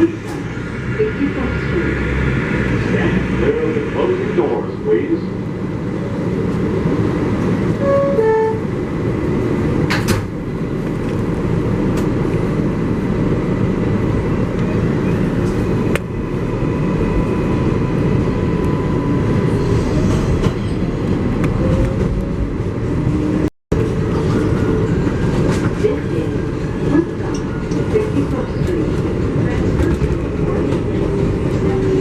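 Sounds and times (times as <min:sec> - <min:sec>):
subway train rumble: 0:00.0 - 0:32.0.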